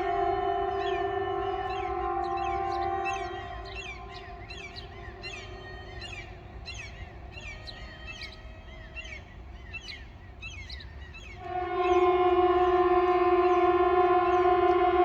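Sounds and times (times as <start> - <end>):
civil defence siren: 0.0 - 8.9, 11.4 - 15.0.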